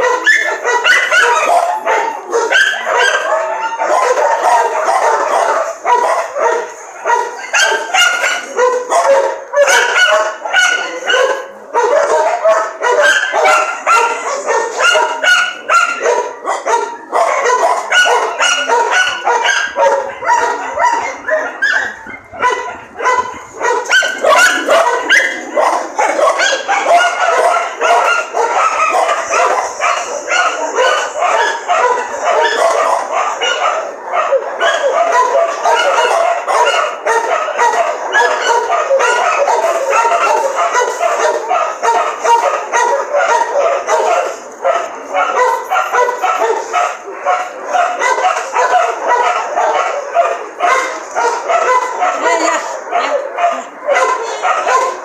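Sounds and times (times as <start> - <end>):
dogs barking and yipping: 0.0 - 55.0.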